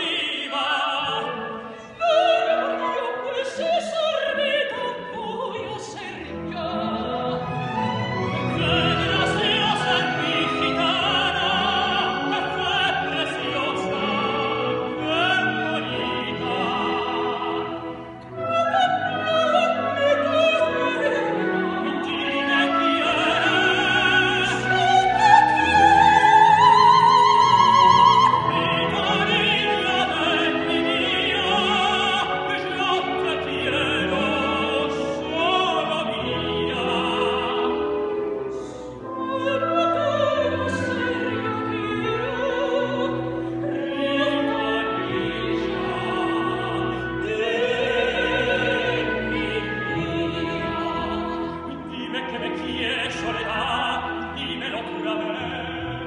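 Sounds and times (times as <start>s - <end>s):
operatic duet singing: 0.0s - 56.0s
orchestra playing: 0.0s - 56.0s.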